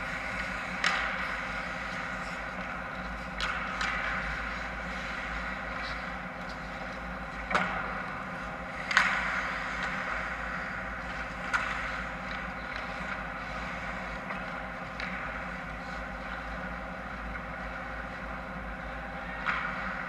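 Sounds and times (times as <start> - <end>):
hockey sticks and puck clacking: 0.0 - 20.0
skates on ice: 0.0 - 20.0
steady hum: 0.0 - 20.0.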